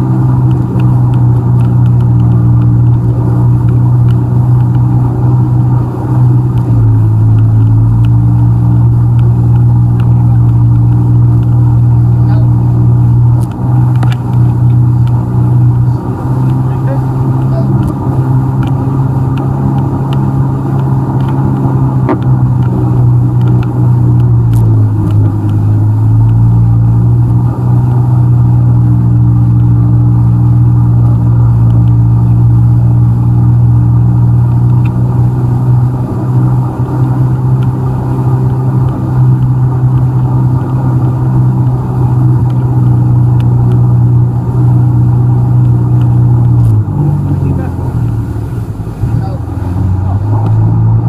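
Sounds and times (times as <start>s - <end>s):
jet ski engine running: 0.0s - 51.0s.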